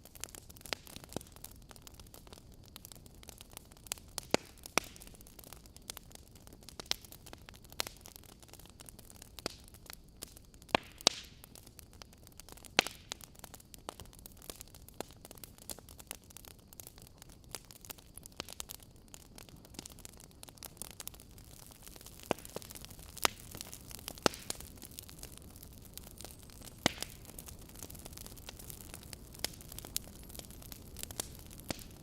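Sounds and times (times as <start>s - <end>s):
log fire crackling: 0.0s - 32.0s.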